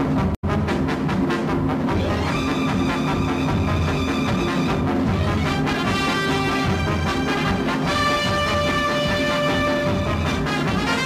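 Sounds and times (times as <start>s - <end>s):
music with sustained chords: 0.5s - 11.0s.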